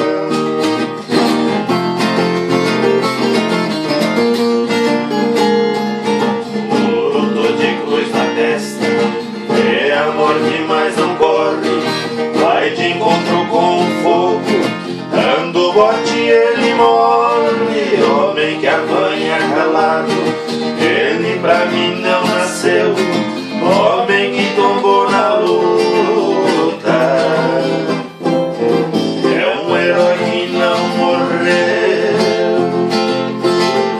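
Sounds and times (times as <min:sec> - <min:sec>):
plucked guitar tune: 0:00.0 - 0:33.9.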